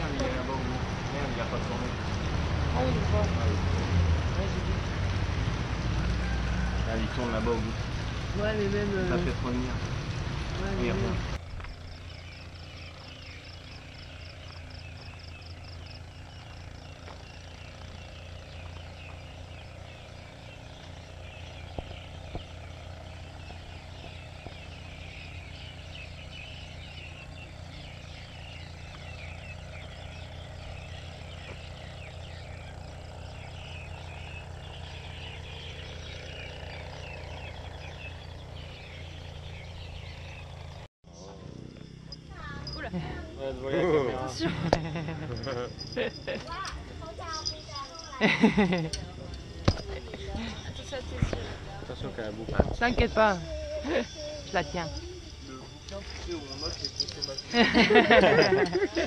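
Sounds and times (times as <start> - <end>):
insects and frogs chirping: 0.0 - 59.0.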